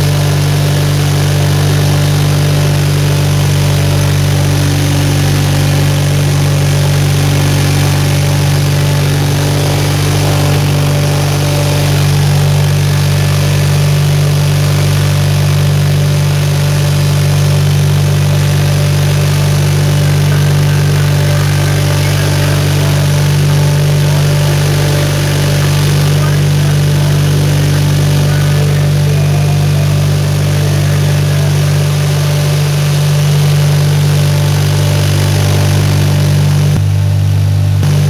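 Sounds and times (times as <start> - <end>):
engine droning from inside cab: 0.0 - 38.0.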